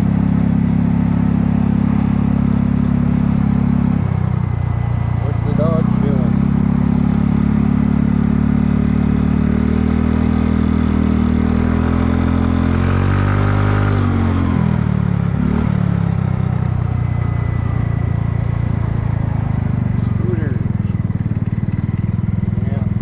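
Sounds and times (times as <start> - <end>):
scooter engine running: 0.0 - 23.0.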